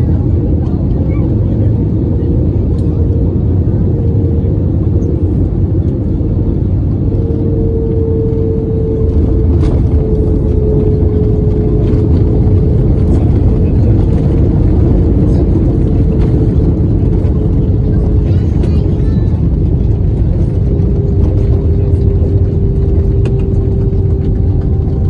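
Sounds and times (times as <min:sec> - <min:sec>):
airplane landing rumble: 0:00.0 - 0:25.0.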